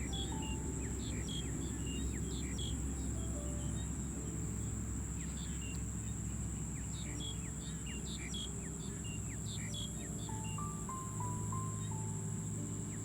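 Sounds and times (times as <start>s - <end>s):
crickets and insects droning: 0.0s - 13.0s.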